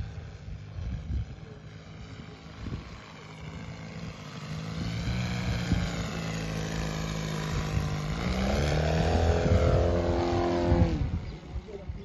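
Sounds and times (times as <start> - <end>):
model plane engine drone: 0.0 - 12.0.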